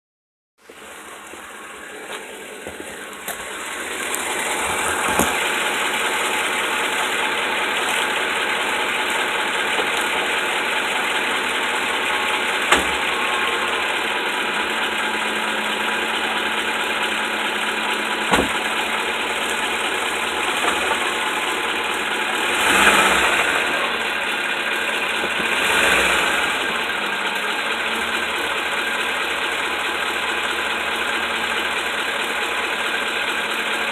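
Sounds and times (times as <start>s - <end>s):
pickup truck engine running: 0.6s - 33.9s.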